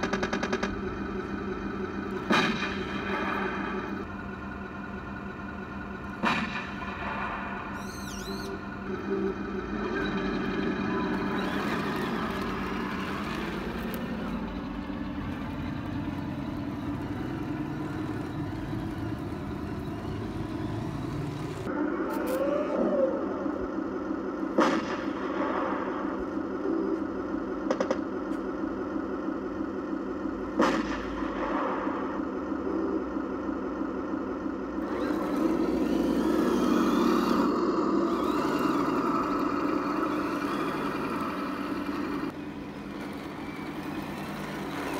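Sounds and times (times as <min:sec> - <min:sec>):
simulated tank engine running: 0:00.0 - 0:44.9.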